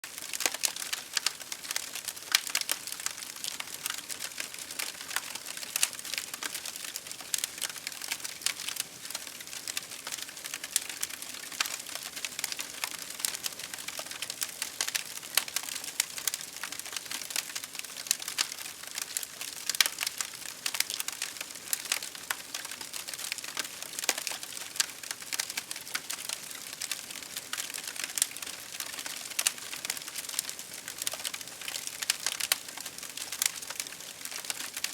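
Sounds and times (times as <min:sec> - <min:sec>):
campfire popping and snapping: 0:00.1 - 0:34.9.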